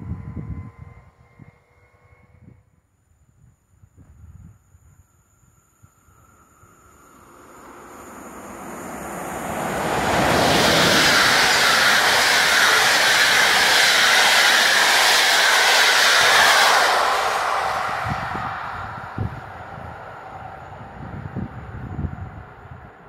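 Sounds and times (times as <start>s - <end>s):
passing train rail and wheel noise: 0.0s - 23.0s.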